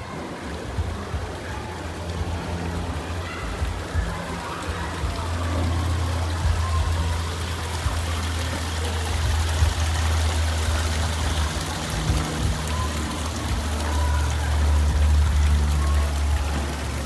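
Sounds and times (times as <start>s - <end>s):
rushing trickling water: 0.0s - 17.0s.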